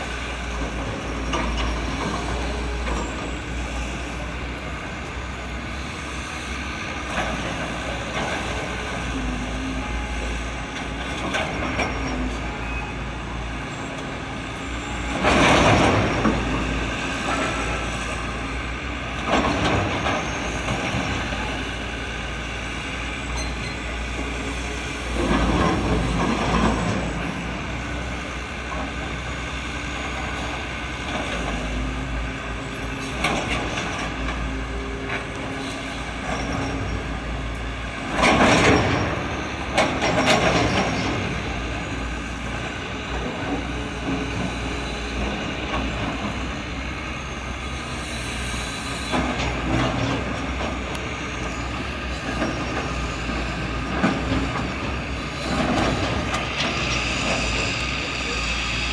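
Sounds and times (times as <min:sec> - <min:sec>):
heavy vehicles rumbling: 0:00.0 - 0:58.9.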